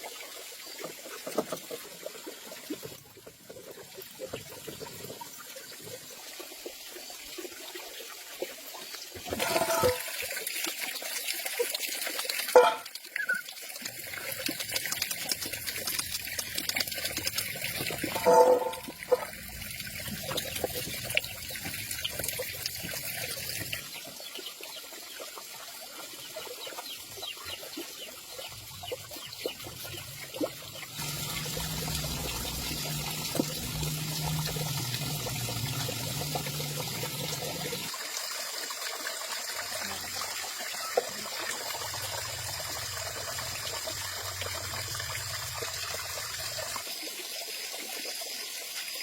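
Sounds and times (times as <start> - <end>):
water trickling and splashing: 0.0 - 49.0.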